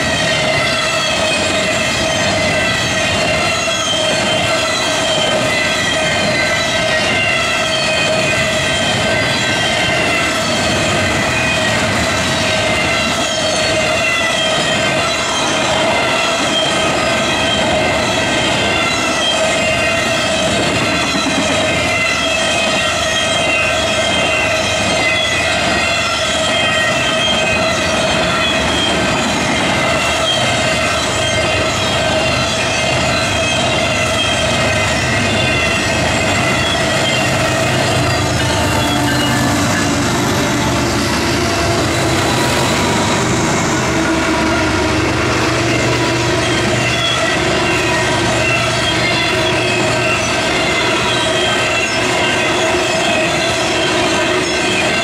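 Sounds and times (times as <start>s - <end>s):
freight train rolling noise: 0.0s - 55.0s
wheels squealing: 0.0s - 55.0s.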